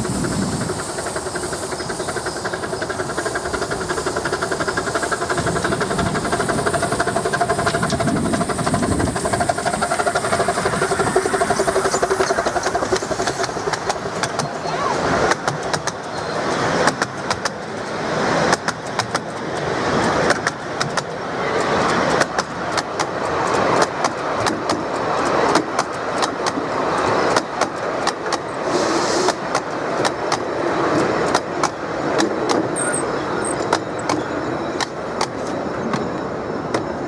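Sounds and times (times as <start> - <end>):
wheels clicking over rail joints: 0.0 - 37.0
wheels rumbling on track: 0.0 - 37.0.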